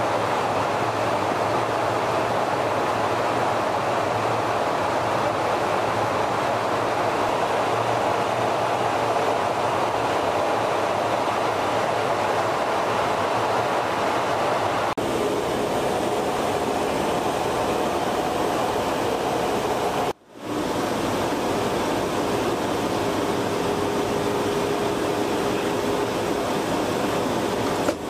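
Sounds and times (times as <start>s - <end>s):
aircraft rushing noise in flight: 0.0s - 28.0s.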